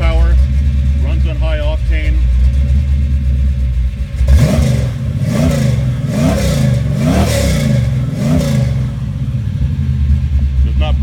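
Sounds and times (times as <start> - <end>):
car engine idling: 0.0 - 11.0
car engine revving: 0.0 - 11.0.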